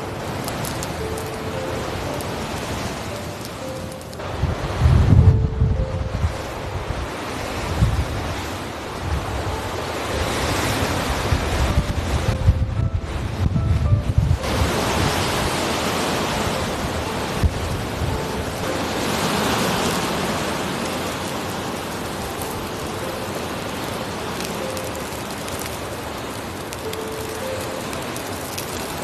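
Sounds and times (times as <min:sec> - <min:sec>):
wind buffeting microphone: 0:00.0 - 0:26.9
strong wind blowing snow: 0:00.0 - 0:29.0.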